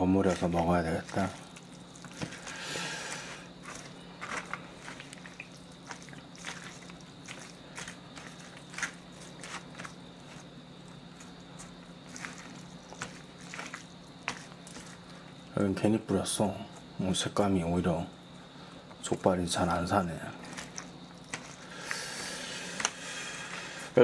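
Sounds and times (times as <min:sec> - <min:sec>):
wet squishes of noodles: 0:00.0 - 0:15.6, 0:20.4 - 0:24.0.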